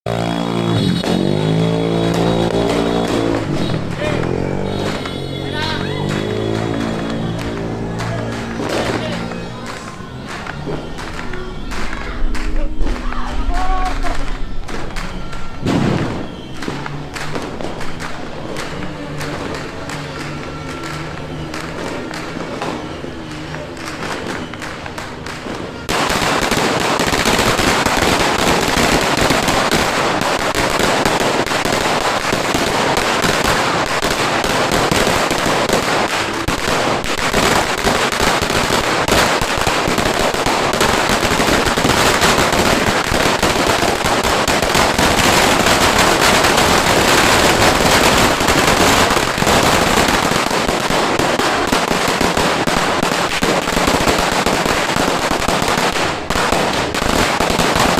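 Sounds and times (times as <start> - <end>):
firecrackers crackling: 0.1 - 57.9.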